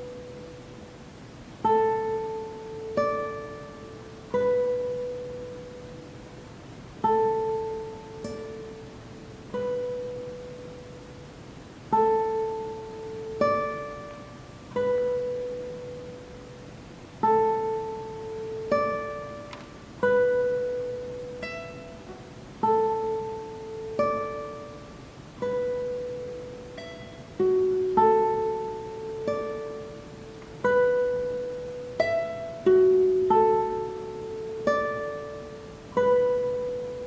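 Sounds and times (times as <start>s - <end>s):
guitar plucked notes ringing: 0.0s - 37.0s.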